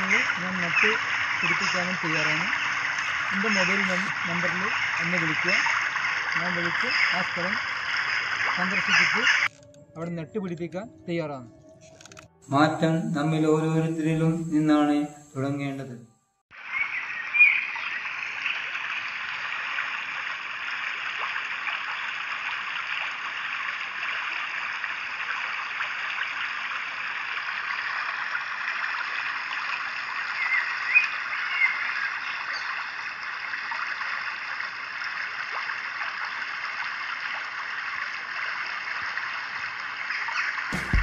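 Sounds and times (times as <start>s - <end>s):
stream flowing: 0.0s - 10.8s, 16.5s - 41.0s.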